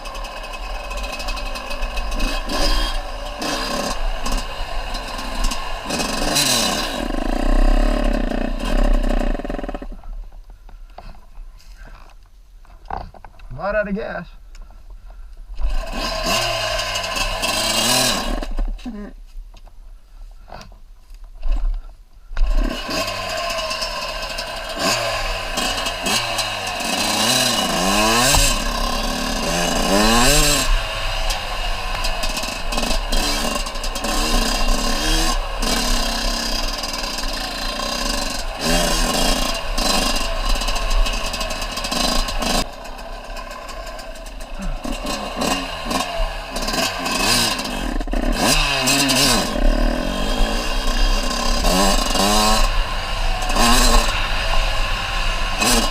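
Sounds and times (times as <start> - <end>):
small engine starting and revving: 0.0 - 10.0, 15.6 - 19.0, 22.4 - 55.9.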